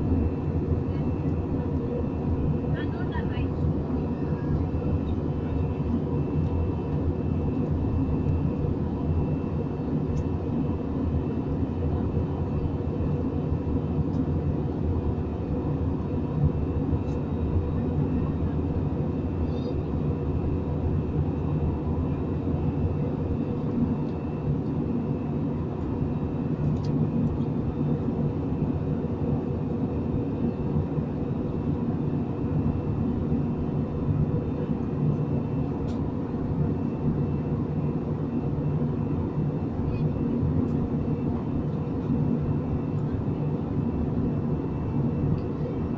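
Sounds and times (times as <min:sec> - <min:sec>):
airliner engines droning: 0:00.0 - 0:45.9.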